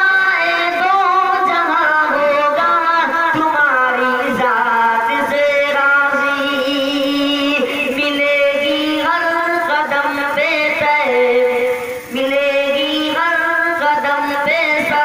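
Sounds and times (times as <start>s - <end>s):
man singing long held notes: 0.0s - 15.0s.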